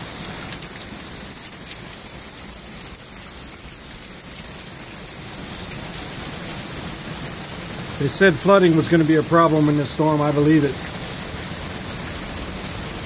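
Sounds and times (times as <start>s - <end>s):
heavy rain pouring: 0.0s - 13.0s
water spilling from gutters: 0.0s - 13.0s.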